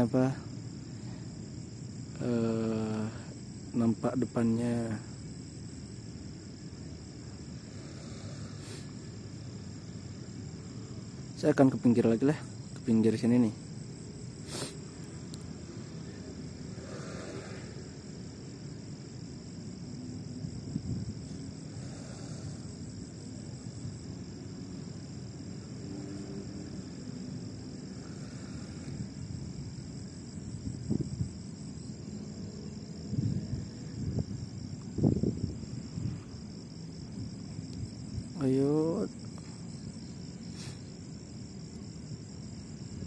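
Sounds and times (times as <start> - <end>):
crickets trilling: 0.0 - 43.0.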